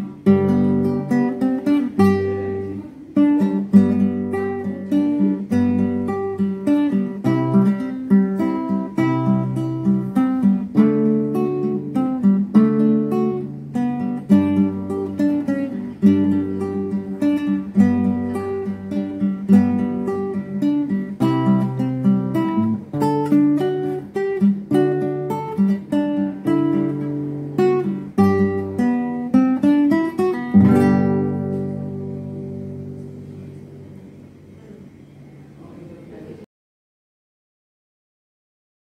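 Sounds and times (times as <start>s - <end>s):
classical guitar fingerpicking: 0.0s - 35.5s.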